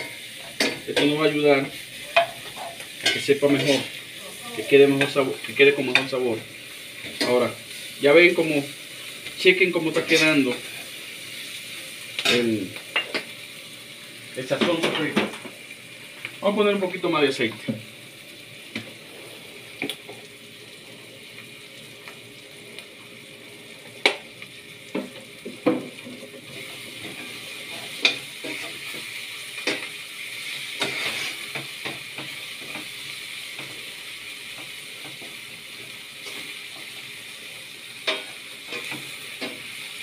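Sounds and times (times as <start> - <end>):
vegetables sizzling in oil: 0.0 - 40.0.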